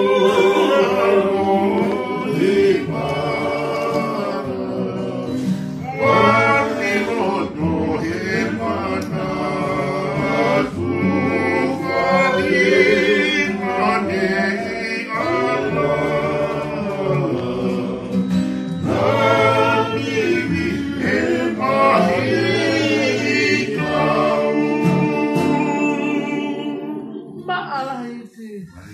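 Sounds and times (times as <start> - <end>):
group singing in harmony: 0.0 - 27.8
acoustic guitar: 0.0 - 28.9.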